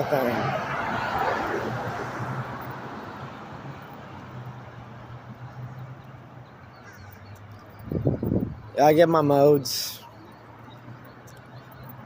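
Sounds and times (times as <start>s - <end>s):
street background hum: 0.0s - 12.0s.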